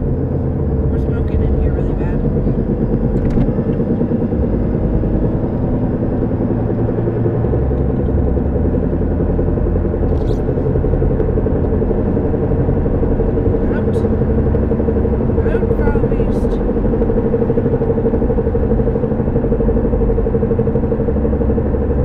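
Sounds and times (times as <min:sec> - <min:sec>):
car road noise rumbling drone: 0:00.0 - 0:22.0.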